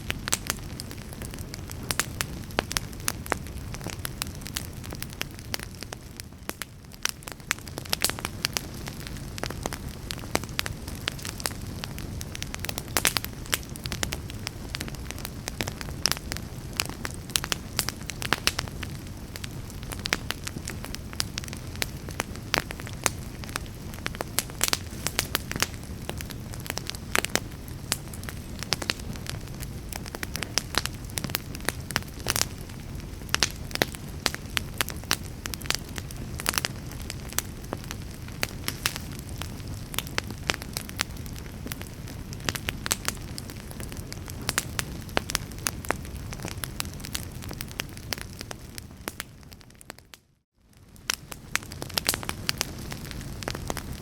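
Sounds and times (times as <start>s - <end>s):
fire crackling with pops: 0.0s - 54.0s
low rumble of flames: 0.0s - 54.0s.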